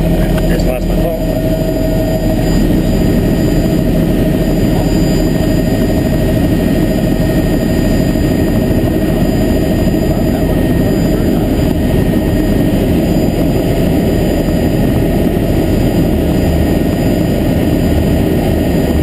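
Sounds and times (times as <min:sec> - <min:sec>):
faint steady whine: 0:00.0 - 0:19.0
helicopter turbine and rotor drone: 0:00.0 - 0:19.0.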